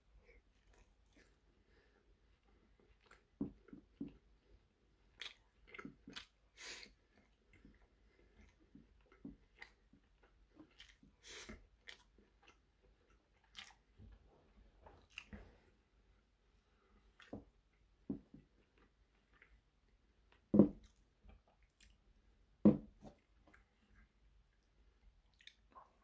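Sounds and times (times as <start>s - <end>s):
person chewing food: 0.2s - 15.8s, 16.5s - 22.1s, 23.0s - 26.0s.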